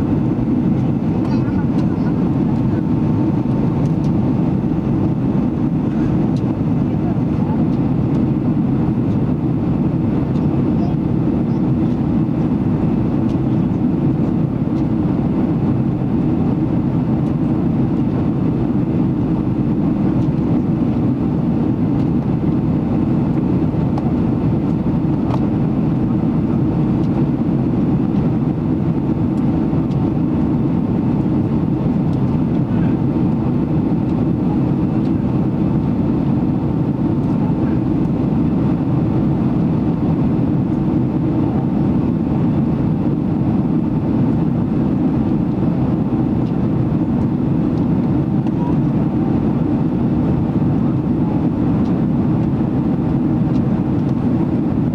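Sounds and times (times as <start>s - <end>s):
airplane cabin engine roar: 0.0s - 54.9s.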